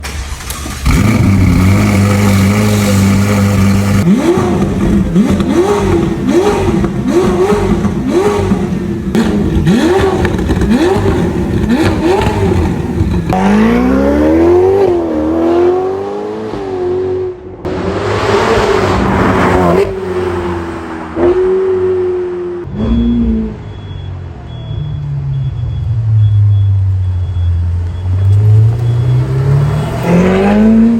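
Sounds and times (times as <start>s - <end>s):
sports car engine revving: 0.8s - 23.7s, 28.1s - 30.9s.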